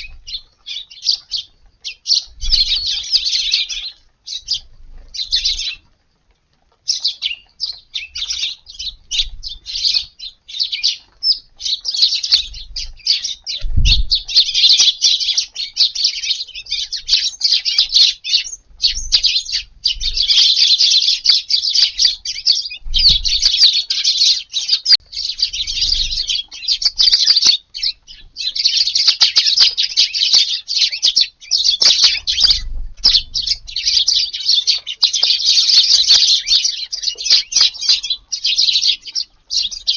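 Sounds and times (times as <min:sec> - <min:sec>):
flock of sparrows chirping: 0:00.0 - 0:39.9.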